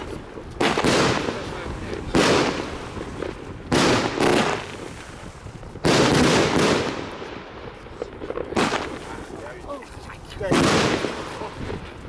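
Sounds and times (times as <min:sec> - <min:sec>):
firework blasts: 0:00.0 - 0:12.0.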